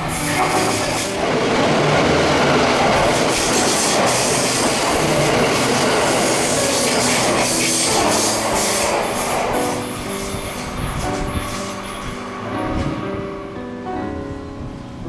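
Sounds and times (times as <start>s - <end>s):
train passing at high speed: 0.0s - 15.0s.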